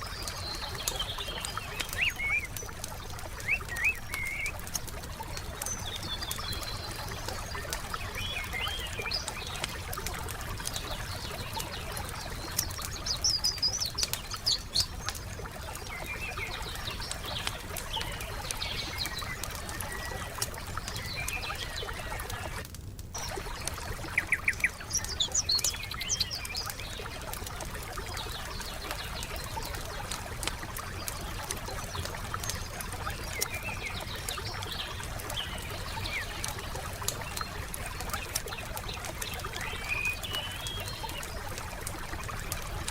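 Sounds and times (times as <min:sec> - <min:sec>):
songbirds chirping: 0:00.0 - 0:42.9
wood fire crackling and popping: 0:00.0 - 0:42.9.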